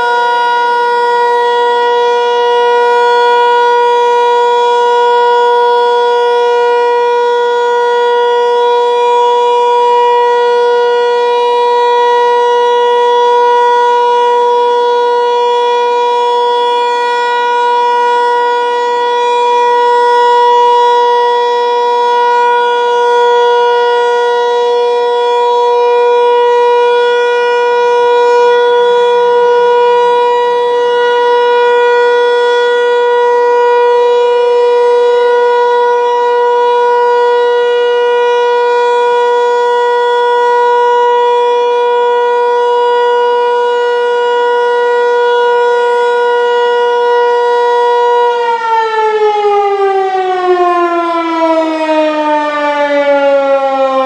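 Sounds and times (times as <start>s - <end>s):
tornado siren steady tone: 0.0s - 54.0s.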